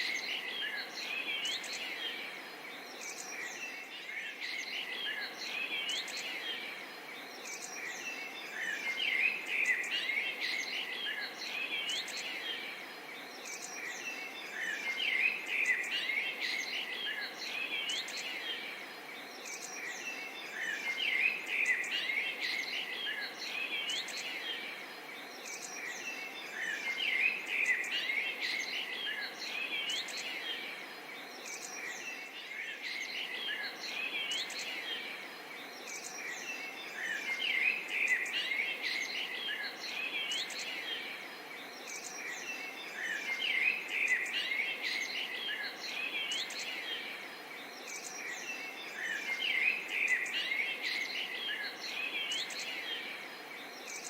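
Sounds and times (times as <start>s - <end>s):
steady background hiss: 0.0s - 54.0s.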